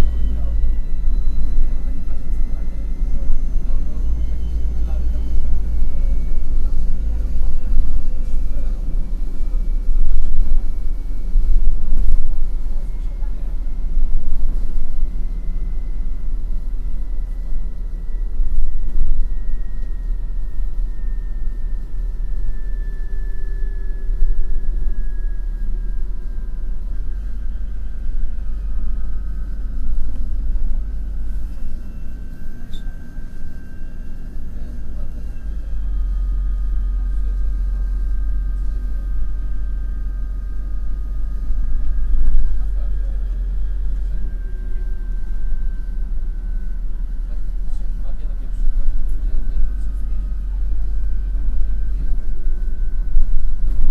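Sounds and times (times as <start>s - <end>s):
bus engine rumble: 0.0s - 53.9s
drive whine: 0.0s - 53.9s.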